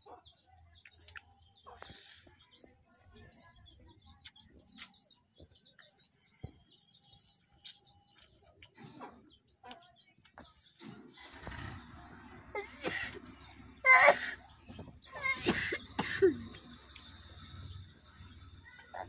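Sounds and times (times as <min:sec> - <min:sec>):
faint small birds chirping: 0:00.0 - 0:19.0.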